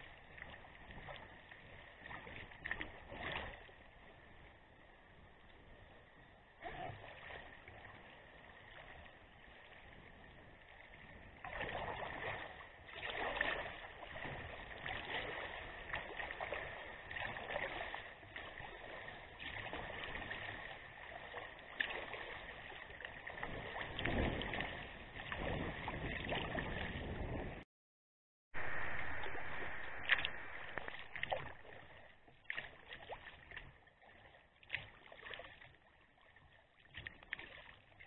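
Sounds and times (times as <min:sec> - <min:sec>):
water splashing against kayak hull: 0:00.0 - 0:27.6, 0:28.6 - 0:38.0.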